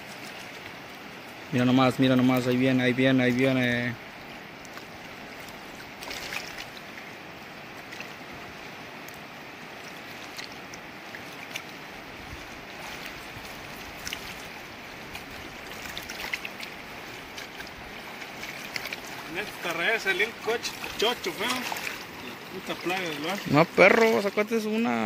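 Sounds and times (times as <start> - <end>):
light water splashes: 0.0 - 25.0
river rushing: 0.0 - 25.0.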